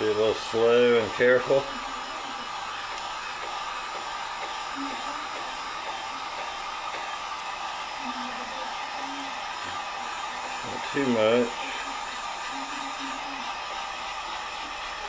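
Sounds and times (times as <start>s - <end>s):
heat gun blowing hot air: 0.0s - 15.0s.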